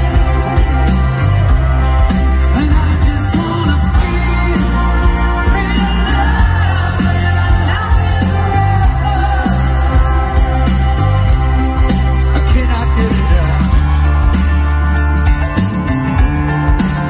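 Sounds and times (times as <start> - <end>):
man singing: 0.0 - 14.0
live pop ballad over loudspeakers: 0.0 - 17.0.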